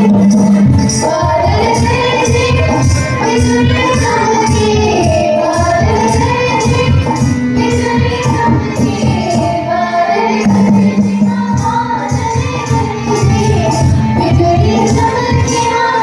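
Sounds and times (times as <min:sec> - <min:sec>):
girls singing folk song: 0:00.0 - 0:16.0
steady percussion beat: 0:00.0 - 0:16.0.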